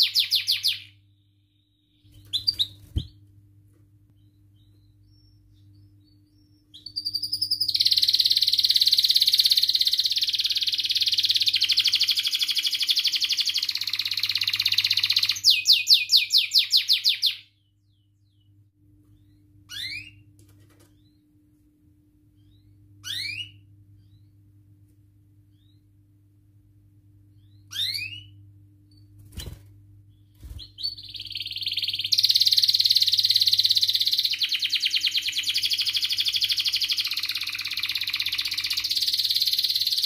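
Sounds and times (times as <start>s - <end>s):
canary singing: 0.0s - 3.2s, 4.2s - 20.3s, 22.4s - 24.3s, 27.3s - 28.4s, 30.1s - 40.0s.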